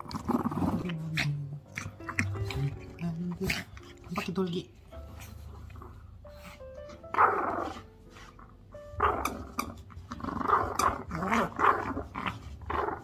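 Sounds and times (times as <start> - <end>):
puppy growling and yapping: 0.0 - 4.4, 5.2 - 13.0.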